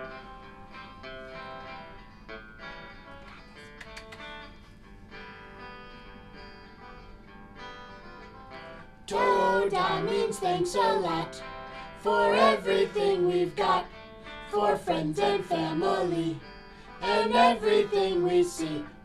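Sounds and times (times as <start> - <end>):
guitar strumming chords: 0.0 - 19.0.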